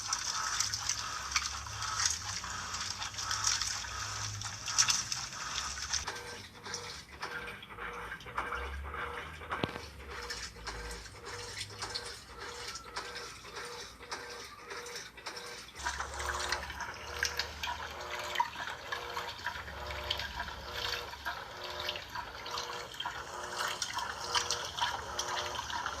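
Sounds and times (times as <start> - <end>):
water sloshing in washing machine: 0.0 - 26.0.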